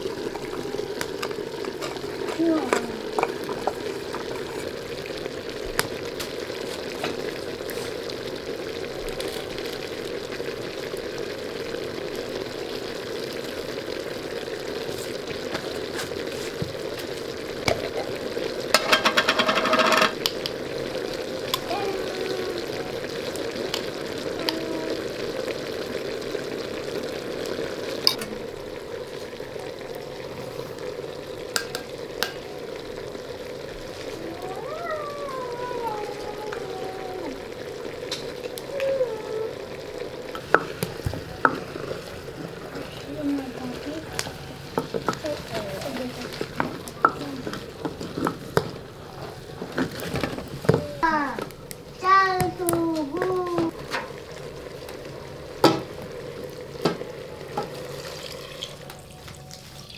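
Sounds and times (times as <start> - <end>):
onions sizzling in a pot: 0.0 - 59.9.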